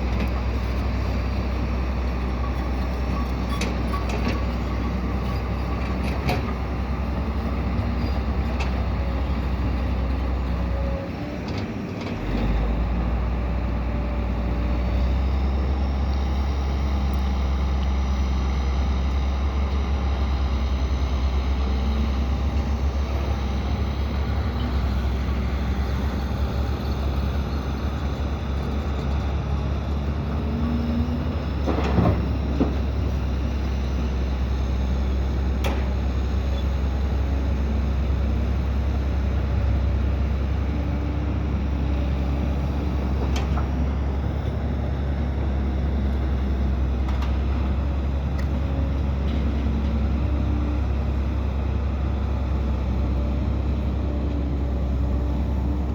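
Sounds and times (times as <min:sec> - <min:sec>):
heavy diesel machinery rumbling: 0:00.0 - 0:55.9.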